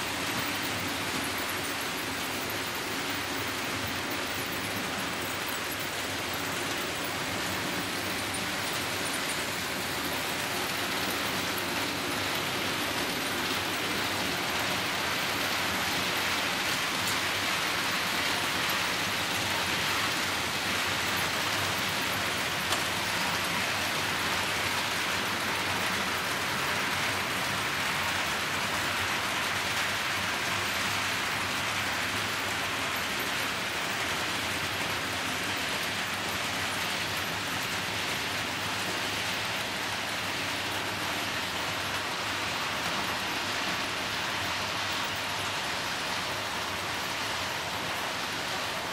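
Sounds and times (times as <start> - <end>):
model trains rolling on track: 0.0 - 48.9.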